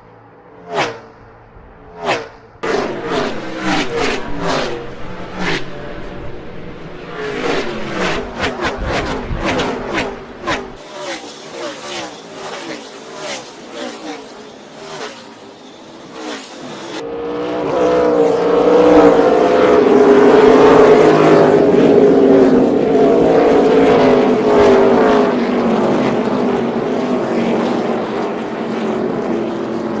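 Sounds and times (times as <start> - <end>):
race car engines at speed: 0.0 - 30.0.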